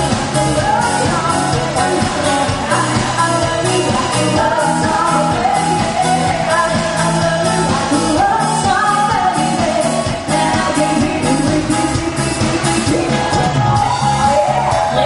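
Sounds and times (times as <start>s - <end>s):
band playing a song: 0.0s - 15.0s
lead vocalist singing: 0.0s - 15.0s
steady drum beat: 0.0s - 15.0s.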